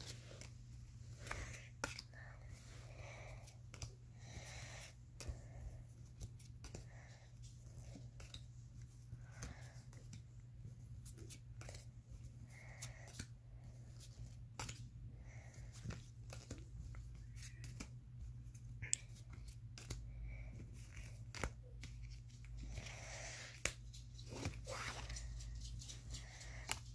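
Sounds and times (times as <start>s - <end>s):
cards clicking and sliding: 0.0s - 2.6s, 3.3s - 7.0s, 7.6s - 10.2s, 10.9s - 26.9s
low steady hum: 0.0s - 26.9s.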